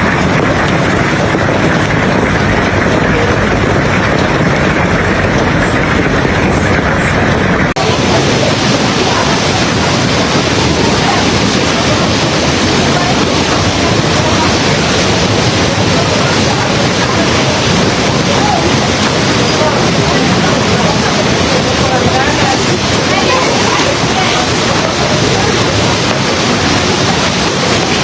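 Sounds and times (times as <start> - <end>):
heavy rain and hail: 0.0 - 28.0.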